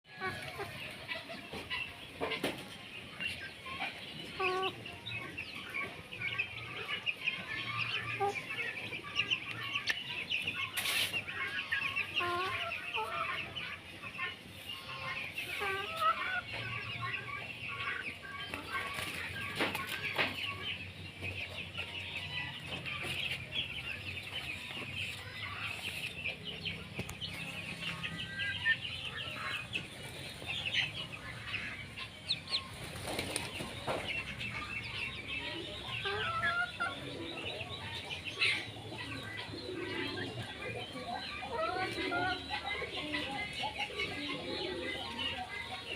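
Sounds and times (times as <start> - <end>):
chickens clucking and calling: 0.1 - 45.9
high chirps chatter: 0.1 - 45.9.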